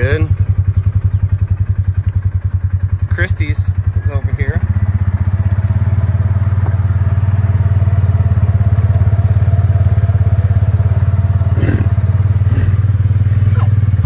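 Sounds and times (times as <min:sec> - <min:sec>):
utility vehicle engine rumbling: 0:00.0 - 0:14.0.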